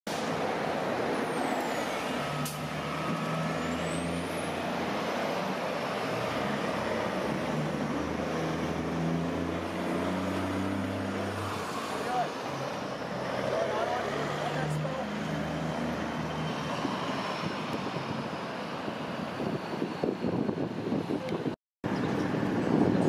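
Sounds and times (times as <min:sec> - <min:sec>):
diesel truck engine: 0:00.1 - 0:23.0
traffic noise: 0:00.1 - 0:23.0.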